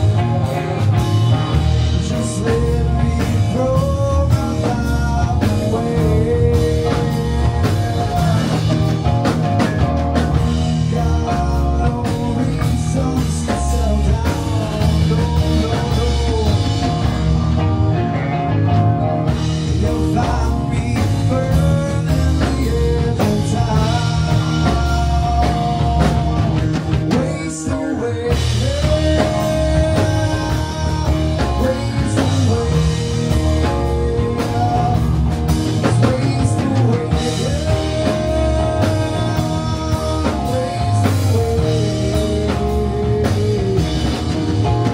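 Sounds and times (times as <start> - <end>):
rock band playing: 0.0 - 44.9.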